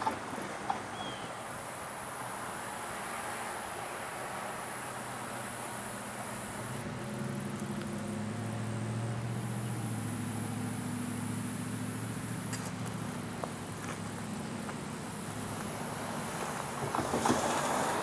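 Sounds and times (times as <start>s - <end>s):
distant engine drone: 0.0s - 18.0s
insects buzzing: 0.0s - 18.0s.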